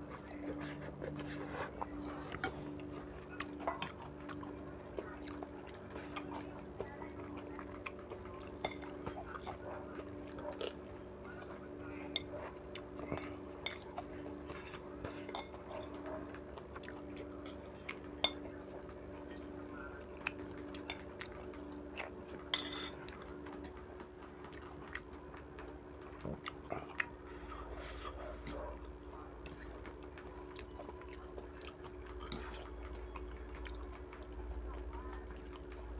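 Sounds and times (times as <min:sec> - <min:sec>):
mouth sounds of eating: 0:00.0 - 0:35.9
steady low hum: 0:00.0 - 0:35.9.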